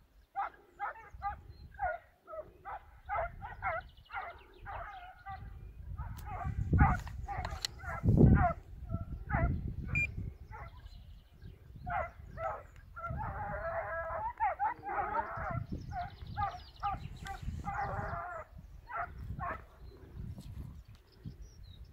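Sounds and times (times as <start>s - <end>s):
hounds baying: 0.4s - 10.9s, 11.8s - 19.9s.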